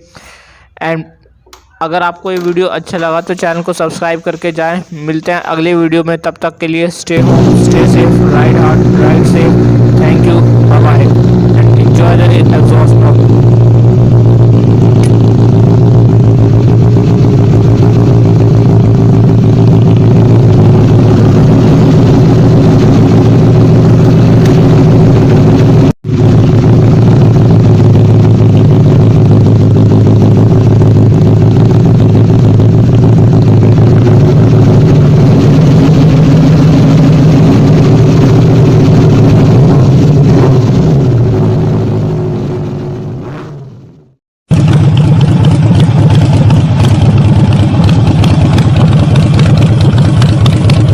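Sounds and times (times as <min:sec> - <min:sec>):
motorcycle engine running: 0:07.2 - 0:50.9.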